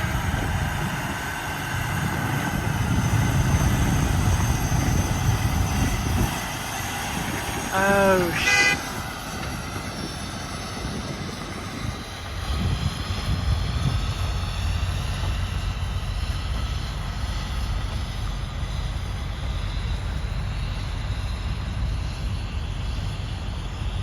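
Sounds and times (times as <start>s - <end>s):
road noise: 0.0s - 24.0s
vehicle engine rumble: 0.0s - 24.0s.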